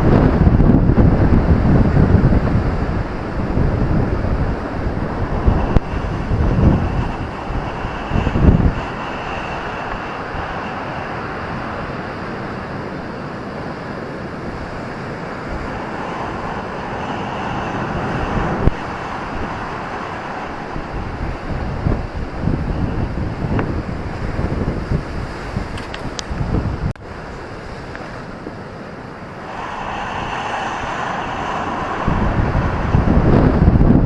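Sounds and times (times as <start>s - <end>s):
ocean surf on beach: 0.0s - 34.0s
wind buffeting microphone: 0.0s - 34.0s.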